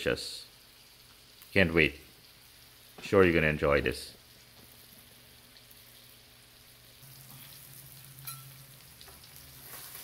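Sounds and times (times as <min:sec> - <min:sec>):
fish sizzling in butter: 0:00.0 - 0:10.0.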